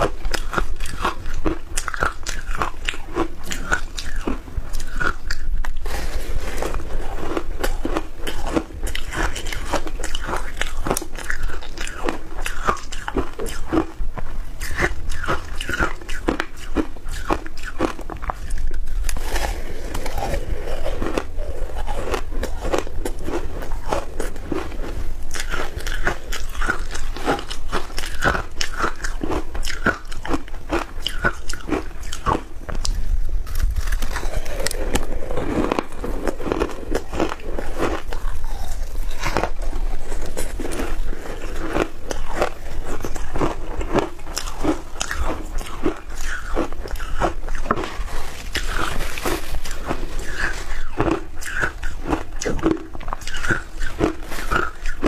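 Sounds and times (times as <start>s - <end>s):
crunchy chewing of shaved ice: 0.0s - 55.0s.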